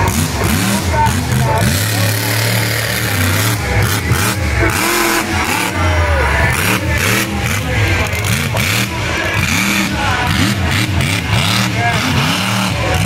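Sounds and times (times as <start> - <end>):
truck engine revving loudly: 0.0 - 13.0.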